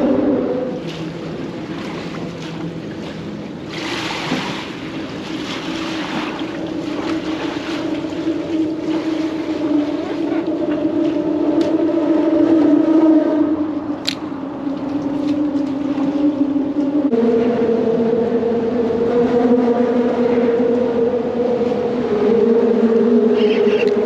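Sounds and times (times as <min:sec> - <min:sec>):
boat motor humming: 0:00.0 - 0:24.0
water noise: 0:00.0 - 0:24.0
wind: 0:00.0 - 0:24.0.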